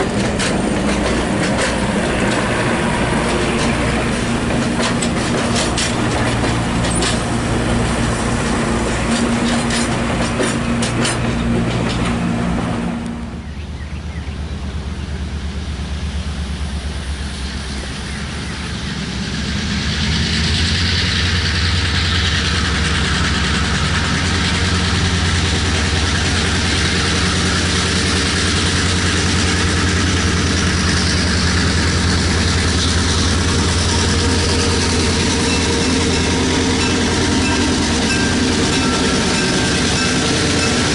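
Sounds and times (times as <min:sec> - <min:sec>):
train running on rails: 0:00.0 - 0:40.9.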